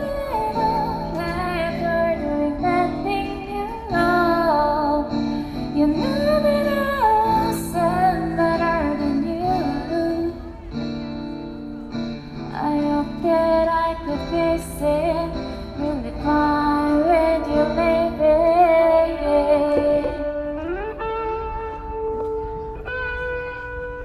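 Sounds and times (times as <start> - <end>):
woman singing pop song: 0.0 - 11.3, 12.4 - 21.0.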